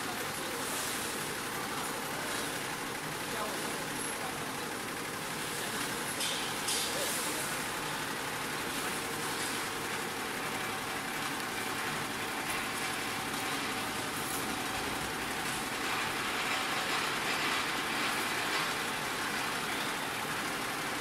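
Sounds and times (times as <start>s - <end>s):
embroidery machine clatter: 0.0s - 21.0s.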